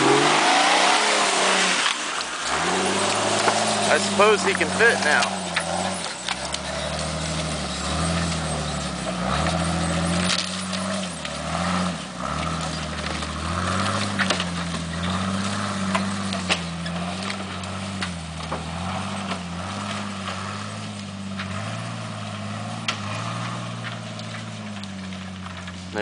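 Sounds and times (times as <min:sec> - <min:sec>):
engine revving on hill climb: 0:00.0 - 0:26.0.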